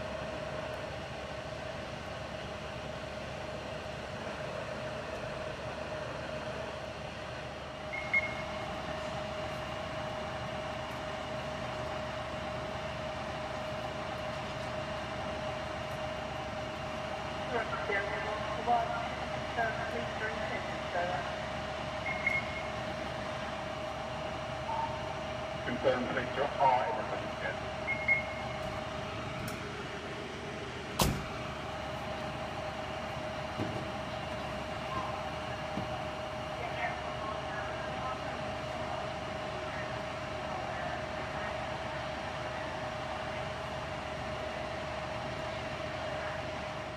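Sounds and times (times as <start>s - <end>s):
constant whine: 0.0s - 46.9s
fire engine engines droning: 0.0s - 46.9s.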